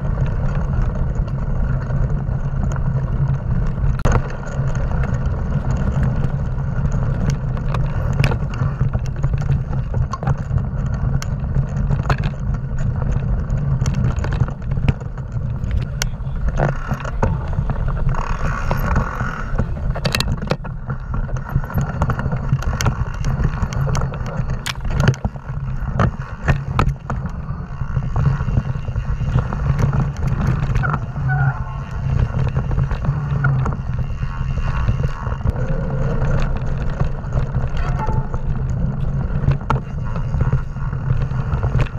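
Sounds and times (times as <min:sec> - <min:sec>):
bike rattles and knocks: 0:00.0 - 0:41.9
wind rushing over microphone: 0:00.0 - 0:41.9.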